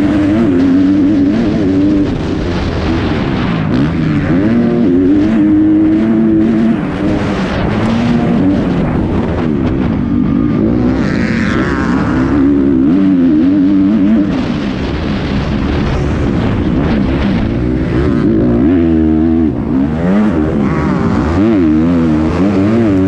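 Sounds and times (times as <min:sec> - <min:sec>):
high wavering whine: 0:00.0 - 0:23.0
motocross bike engine racing: 0:00.0 - 0:23.0
wind rushing over microphone: 0:00.0 - 0:23.0.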